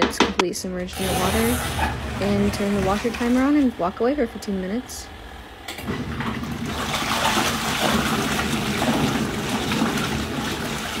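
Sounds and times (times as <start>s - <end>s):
low motor hum: 0.4s - 11.0s
water churning and sloshing: 0.9s - 11.0s.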